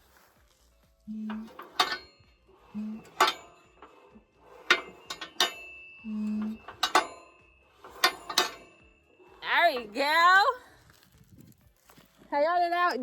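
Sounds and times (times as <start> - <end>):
metal tools clinking on metal: 1.2 - 12.1.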